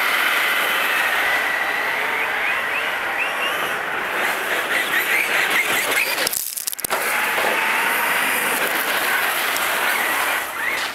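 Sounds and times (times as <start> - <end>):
toy car driving over gravel: 0.0 - 10.9.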